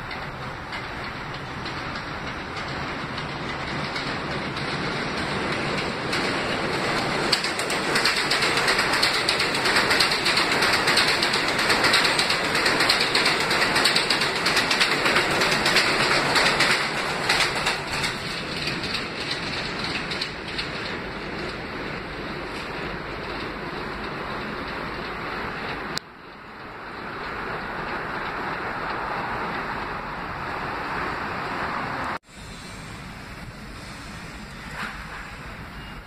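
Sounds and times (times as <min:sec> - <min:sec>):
train wheels clattering on rails: 0:00.0 - 0:36.0.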